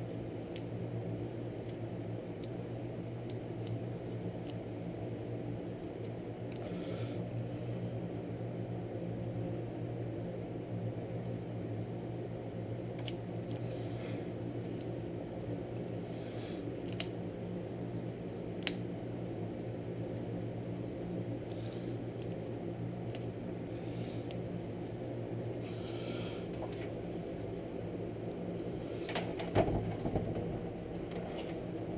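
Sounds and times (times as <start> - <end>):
steady low machine hum: 0.0 - 31.9.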